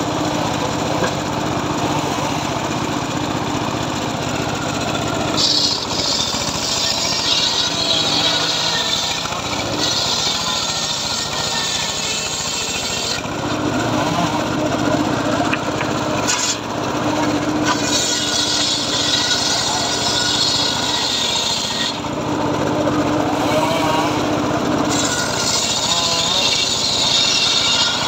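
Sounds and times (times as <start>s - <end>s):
circular saw cutting wood: 0.0s - 28.0s
saw blade and engine humming: 0.0s - 28.0s.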